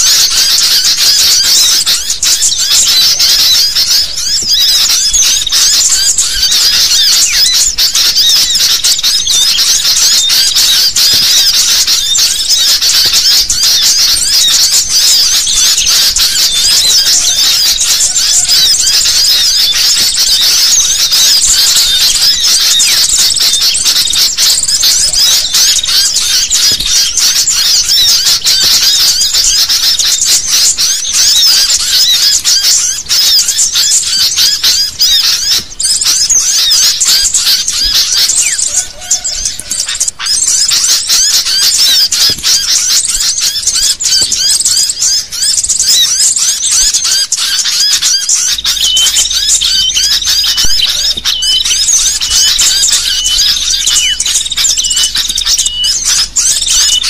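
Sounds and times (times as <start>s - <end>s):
bulbuls chattering and calling: 0.0s - 57.0s.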